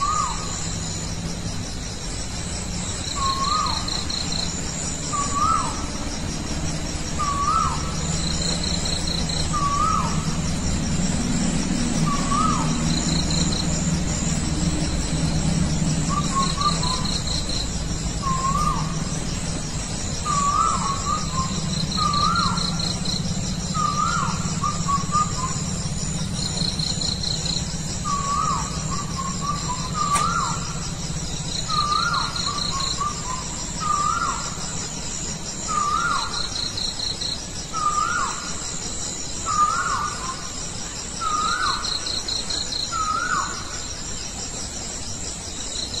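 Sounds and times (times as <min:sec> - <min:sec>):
bird calling at night: 0:00.0 - 0:46.0.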